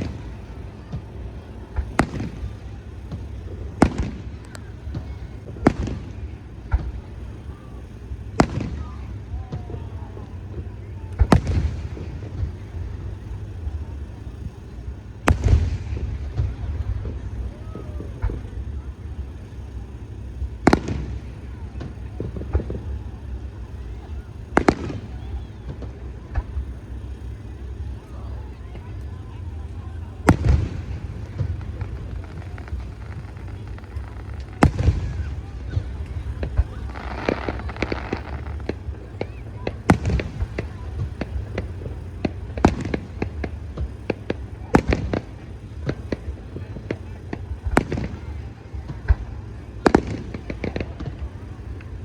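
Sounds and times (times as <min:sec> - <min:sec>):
fireworks booming: 0:00.0 - 0:52.0
fireworks cracks: 0:00.0 - 0:52.0.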